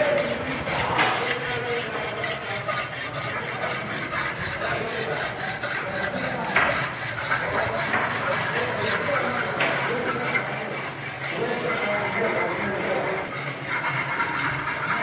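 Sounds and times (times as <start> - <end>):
metal scraping: 0.0 - 15.0.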